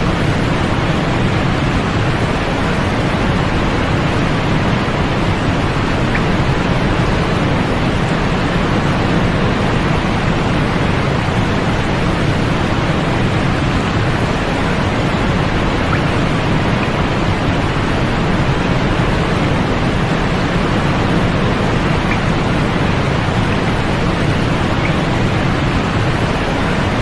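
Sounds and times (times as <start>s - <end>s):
white noise hiss: 0.0s - 27.0s.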